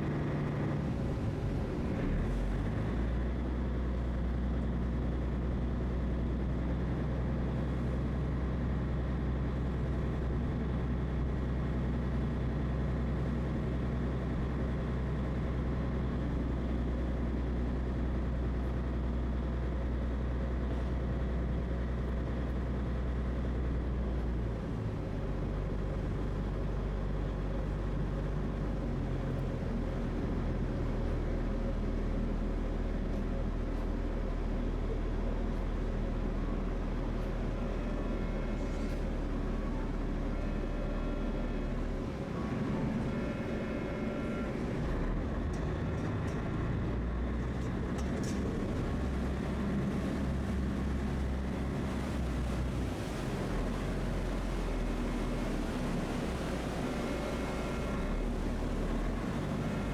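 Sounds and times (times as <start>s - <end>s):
ferry engine humming: 0.0s - 59.9s.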